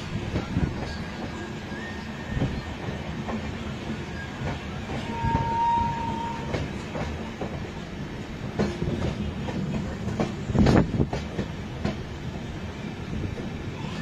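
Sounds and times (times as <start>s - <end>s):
train coaches rumbling: 0.0s - 14.0s.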